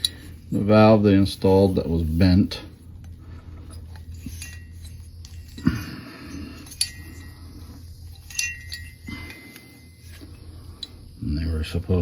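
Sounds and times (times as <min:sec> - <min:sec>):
metal engine parts clinking: 0:00.0 - 0:11.8
low hum: 0:00.0 - 0:12.0.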